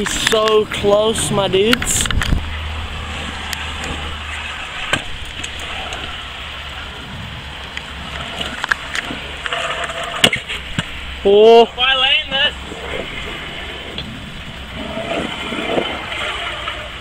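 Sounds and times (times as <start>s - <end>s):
scooter wheels rolling on concrete: 0.0s - 17.0s.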